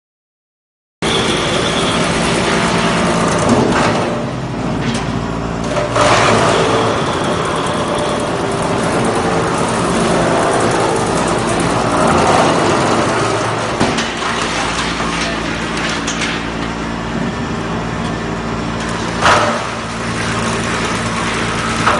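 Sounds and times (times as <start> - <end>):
wood chipper running: 1.0 - 21.9.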